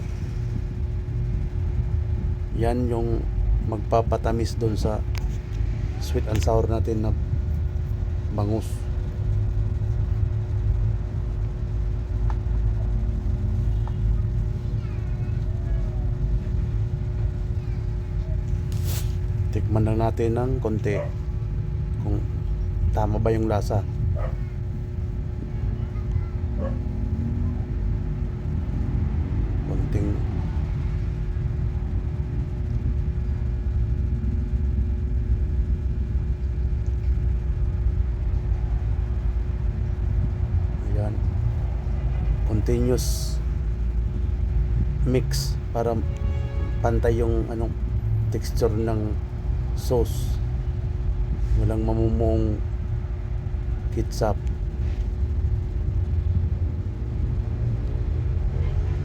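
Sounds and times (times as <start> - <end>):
low rumble with hum: 0.0 - 59.0.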